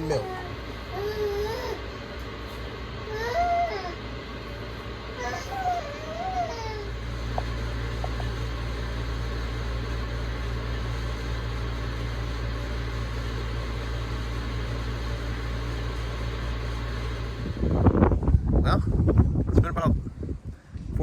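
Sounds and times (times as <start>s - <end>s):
machine humming and hissing: 0.0s - 21.0s.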